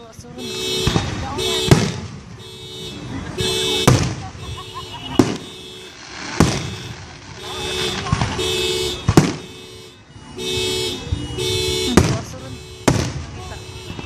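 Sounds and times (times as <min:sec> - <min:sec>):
car alarm electronic tones: 0:00.3 - 0:14.0
fireworks bangs: 0:00.4 - 0:14.0.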